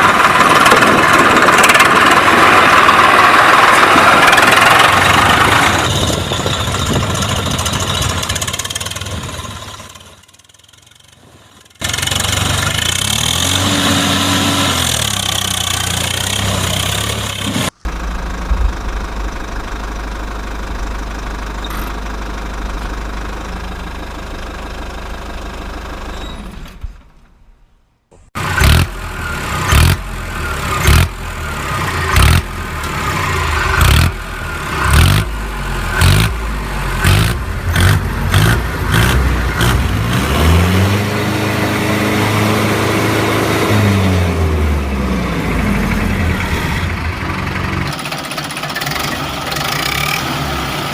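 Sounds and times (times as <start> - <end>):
tractor diesel engine running: 0.0 - 27.5, 28.2 - 50.9.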